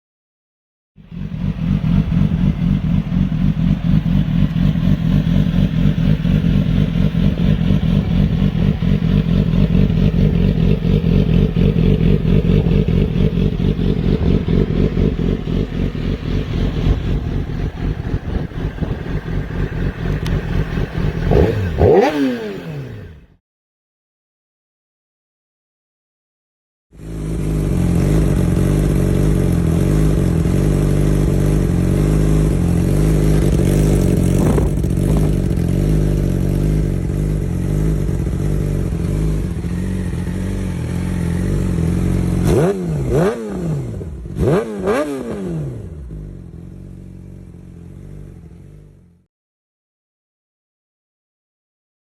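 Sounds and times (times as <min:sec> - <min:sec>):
motorcycle engine idling and revving: 0:01.0 - 0:23.4, 0:26.9 - 0:49.3.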